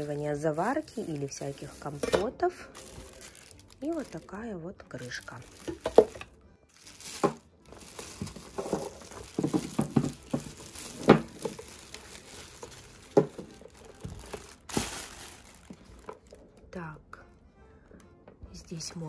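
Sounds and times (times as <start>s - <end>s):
wrapping crinkling and tearing: 0.0s - 16.6s.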